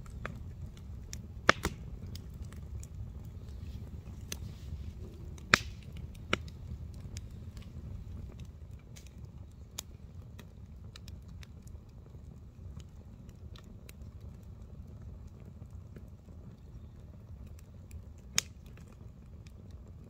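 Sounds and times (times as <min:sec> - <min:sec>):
campfire crackling: 0:00.0 - 0:20.0
low steady rumble: 0:00.0 - 0:20.0.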